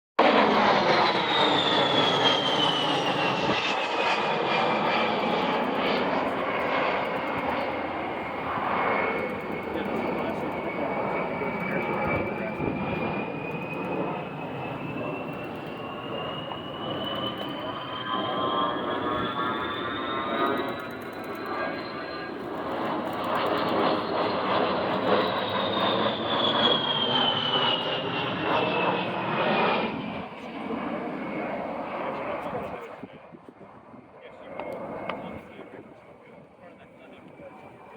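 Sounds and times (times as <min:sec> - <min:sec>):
jet engines passing: 0:00.2 - 0:37.9.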